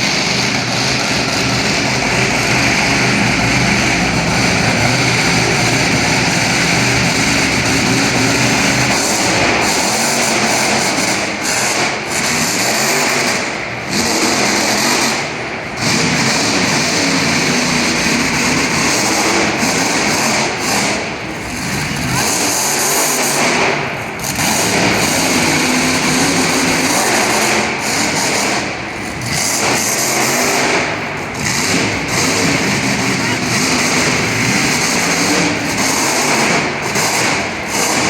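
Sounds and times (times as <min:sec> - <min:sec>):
monster truck engine revving: 0:00.0 - 0:38.0.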